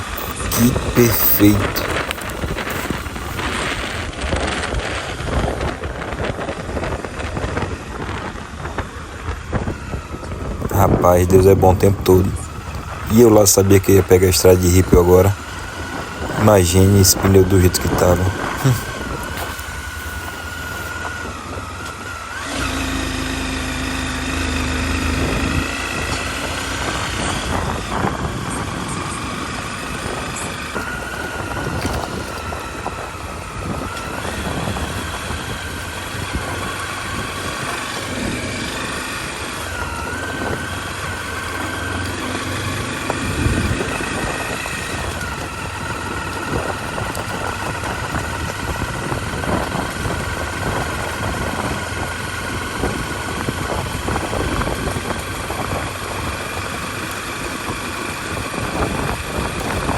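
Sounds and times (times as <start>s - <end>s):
motorcycle engine running: 0.0s - 59.9s
tyres on loose gravel: 0.0s - 59.9s.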